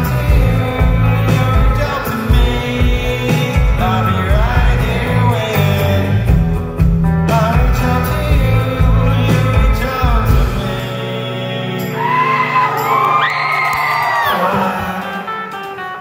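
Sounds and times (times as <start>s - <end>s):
person singing: 0.0s - 6.5s, 7.2s - 16.0s
live rock band playing: 0.0s - 16.0s.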